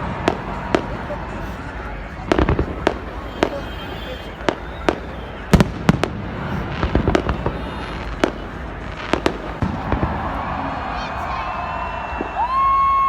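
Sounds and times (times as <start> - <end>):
firecracker crackle: 0.0 - 13.0
firework bangs: 0.0 - 13.0.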